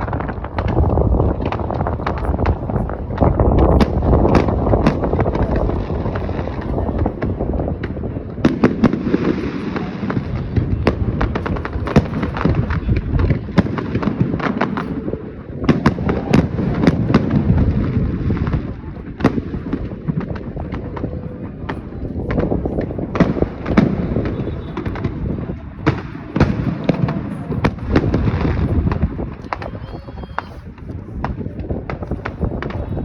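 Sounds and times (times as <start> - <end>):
fireworks booms and cracks: 0.0 - 33.0
low rumble and crackle: 0.0 - 33.0.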